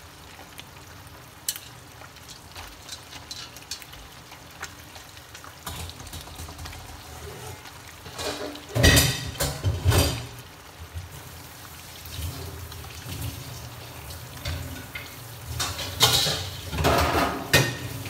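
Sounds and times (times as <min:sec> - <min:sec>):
crackling oil spatter: 0:00.0 - 0:18.0
fish sizzling in oil: 0:00.0 - 0:18.0.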